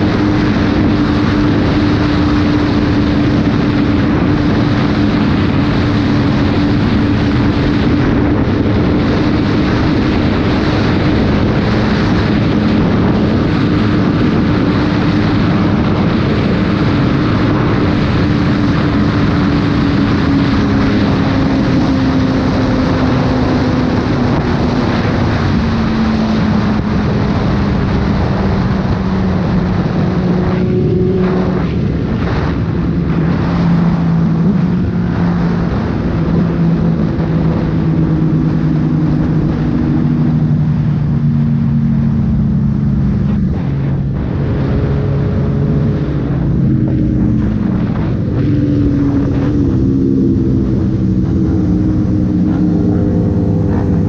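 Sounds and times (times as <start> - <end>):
motorcycle engine running: 0.0 - 54.0
wind rushing on microphone: 0.0 - 54.0.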